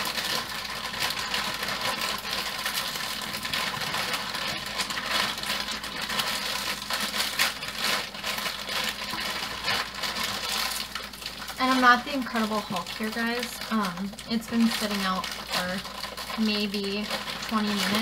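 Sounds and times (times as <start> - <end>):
frozen florets clattering into crock: 0.0 - 18.0
plastic bag crinkling: 0.0 - 18.0.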